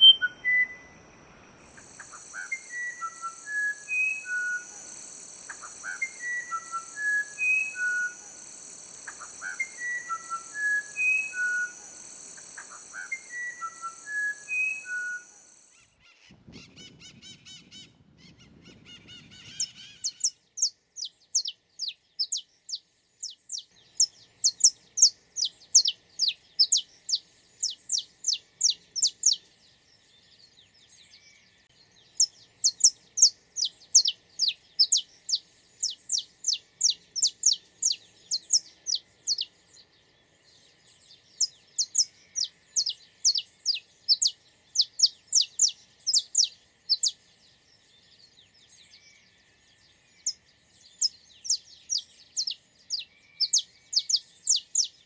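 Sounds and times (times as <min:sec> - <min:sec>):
finch singing: 0:01.6 - 0:15.9, 0:18.2 - 0:29.5, 0:32.0 - 0:47.2, 0:50.1 - 0:55.0.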